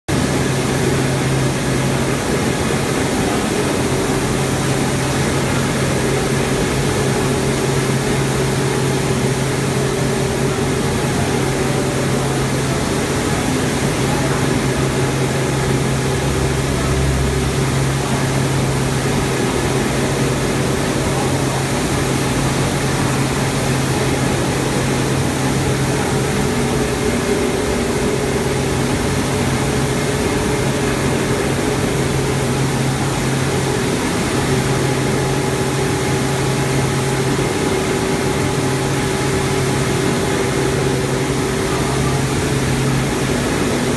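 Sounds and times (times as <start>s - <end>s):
rice milling machinery running: 0.1s - 43.9s.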